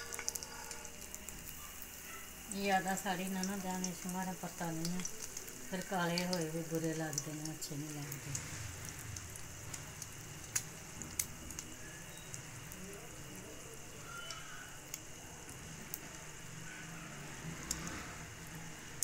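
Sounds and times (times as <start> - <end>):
bread sizzling in a frying pan: 0.0 - 19.0.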